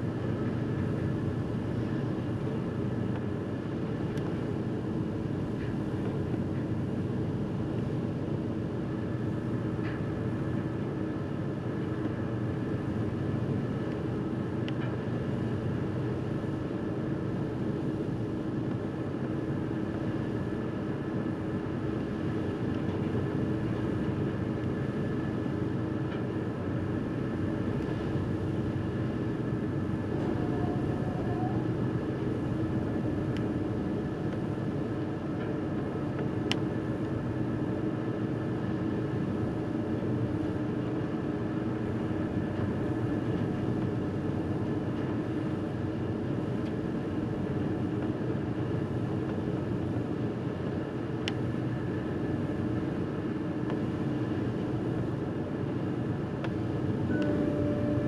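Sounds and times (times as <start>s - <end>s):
sea and wind noise: 0.0s - 58.0s
ship engines droning: 0.0s - 58.0s.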